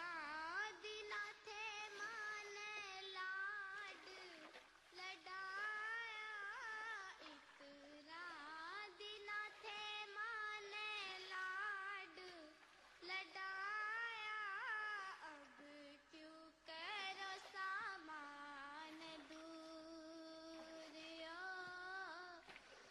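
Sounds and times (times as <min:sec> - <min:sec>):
high voice singing slow melody: 0:00.0 - 0:22.5.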